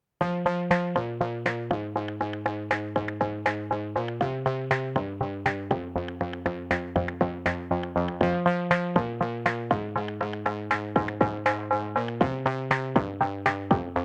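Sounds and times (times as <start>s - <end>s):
upbeat electronic music: 0.2s - 14.0s.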